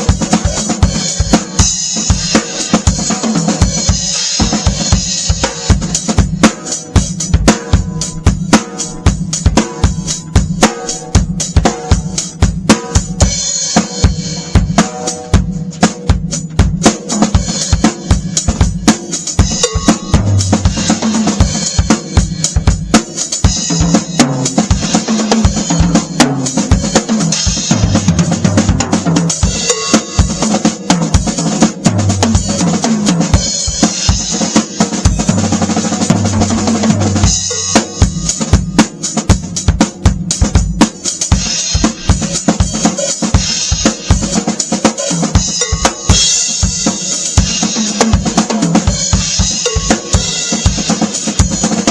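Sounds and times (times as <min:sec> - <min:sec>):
drum kit groove: 0:00.0 - 0:51.9.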